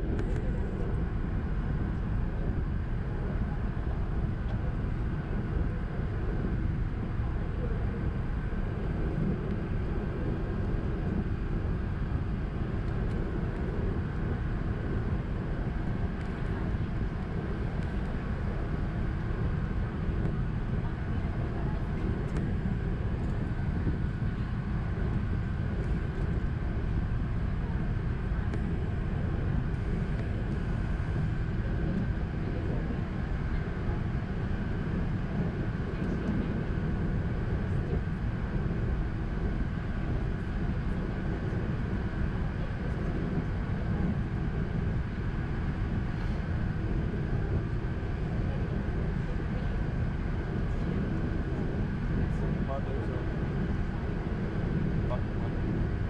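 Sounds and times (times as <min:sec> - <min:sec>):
aircraft cabin engine drone: 0:00.0 - 0:56.0
faint steady hum: 0:00.0 - 0:56.0.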